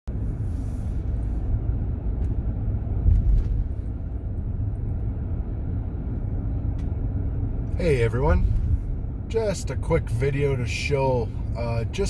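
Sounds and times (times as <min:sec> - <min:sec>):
car driving rumble from inside: 0:00.1 - 0:12.0.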